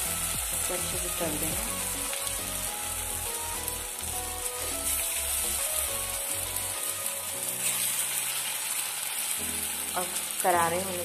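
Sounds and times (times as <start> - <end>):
background music: 0.0 - 11.0
food deep-frying in oil: 0.0 - 11.0.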